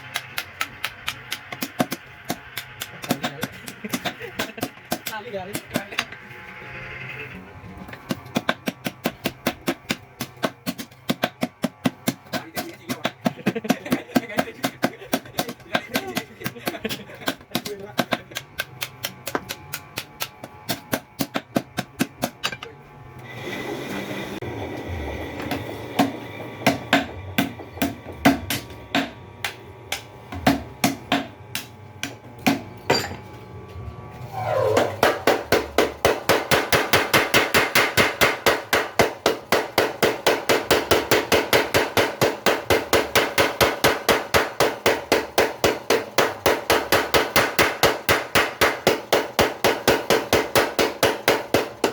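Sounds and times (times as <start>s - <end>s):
power hammer striking: 0.0s - 6.3s, 7.8s - 22.8s, 24.8s - 33.3s, 34.7s - 51.9s
steady hum: 0.0s - 51.9s.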